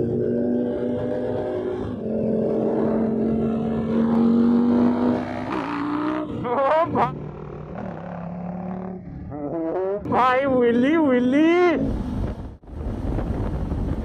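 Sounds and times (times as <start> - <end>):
sport bike revving: 0.0 - 12.0
motorcycle engines: 0.0 - 14.0.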